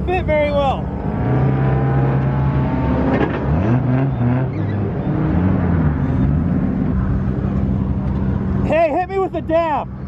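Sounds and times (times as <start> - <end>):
car engine revving: 0.3 - 8.7.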